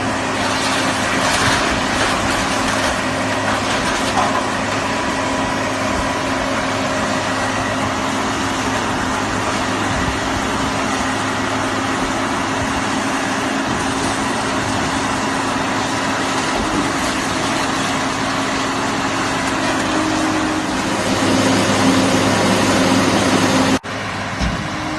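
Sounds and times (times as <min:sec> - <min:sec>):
baler engine droning: 0:00.0 - 0:24.9.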